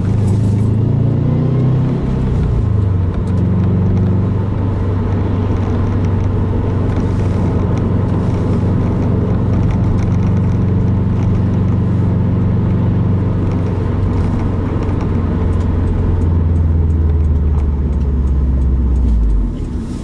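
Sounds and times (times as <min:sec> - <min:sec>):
car exhaust drone from cabin: 0:00.0 - 0:20.0.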